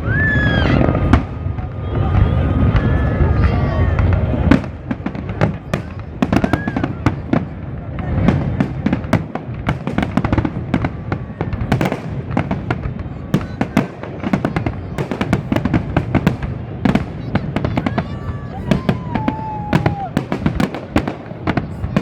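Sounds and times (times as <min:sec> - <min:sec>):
fireworks bangs and crackles: 0:00.0 - 0:22.0
rumble of detonations: 0:00.0 - 0:22.0.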